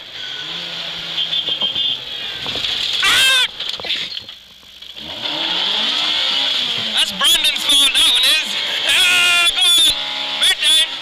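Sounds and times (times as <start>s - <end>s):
car engine revving: 0.0s - 3.8s, 4.8s - 11.0s.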